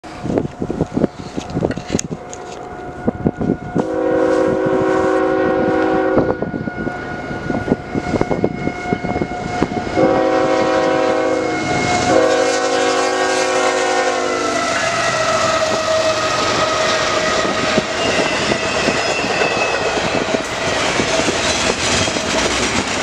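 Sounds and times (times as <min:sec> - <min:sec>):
train rumbling past: 0:00.0 - 0:23.0
locomotive air horn blasts: 0:02.0 - 0:21.0.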